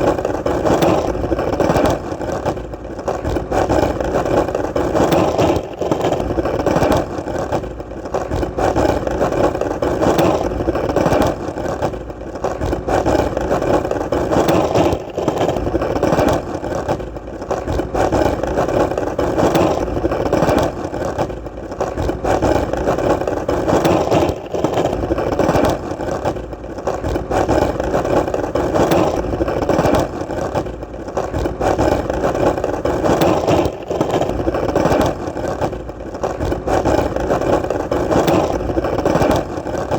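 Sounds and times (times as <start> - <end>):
skateboard wheels rolling: 0.0 - 39.9.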